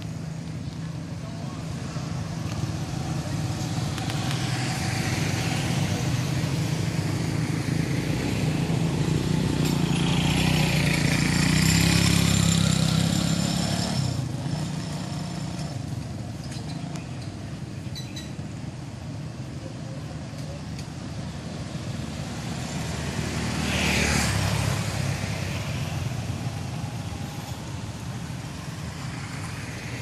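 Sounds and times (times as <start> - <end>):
vehicle engine passing by: 0.0 - 16.1, 21.4 - 30.0.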